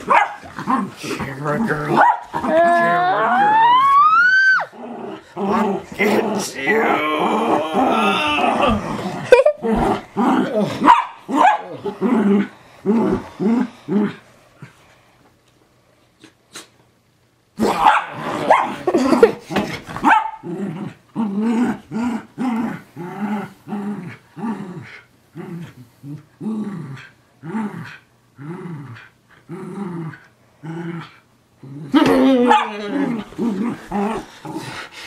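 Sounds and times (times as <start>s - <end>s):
dog growling and snarling: 0.0s - 3.4s, 4.7s - 14.7s, 17.6s - 35.0s.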